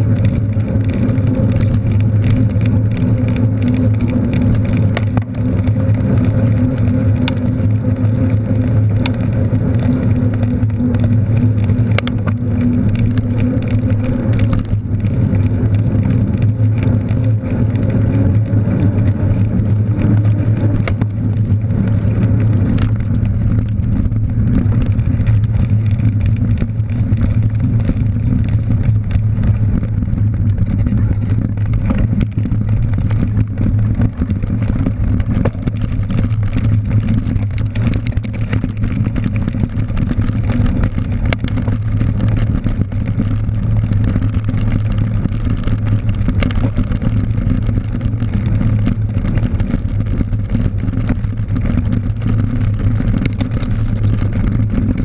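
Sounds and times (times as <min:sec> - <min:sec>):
bike clicks and knocks: 0:00.0 - 0:55.0
wind and rolling rumble: 0:00.0 - 0:55.0.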